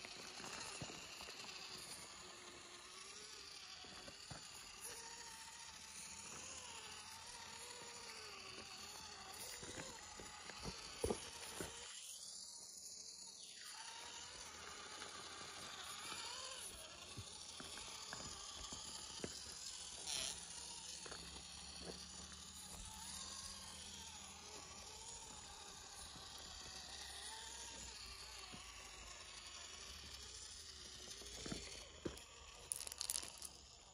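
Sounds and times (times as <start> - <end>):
small electric motor whirring: 0.0 - 33.9.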